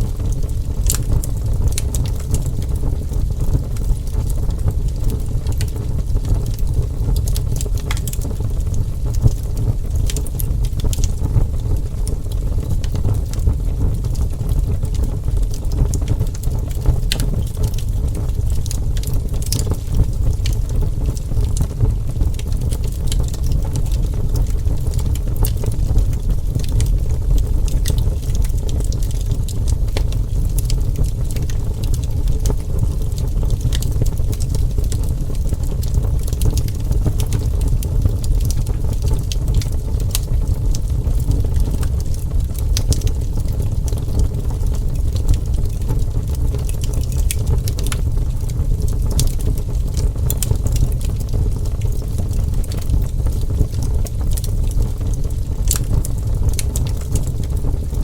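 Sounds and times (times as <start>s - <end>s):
burning wood crackling and popping: 0.0s - 58.0s
wood fire roaring: 0.0s - 58.0s.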